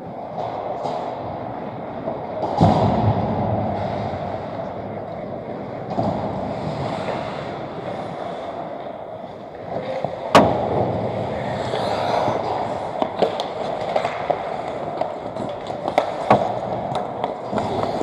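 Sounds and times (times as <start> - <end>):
puck crack: 0.0 - 18.0
skates scraping on ice: 0.0 - 18.0.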